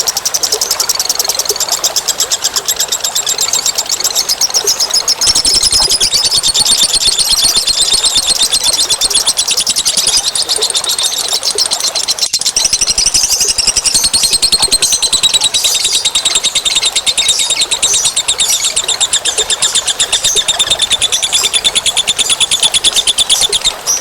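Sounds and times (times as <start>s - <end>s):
small birds chattering trill: 0.0s - 24.0s.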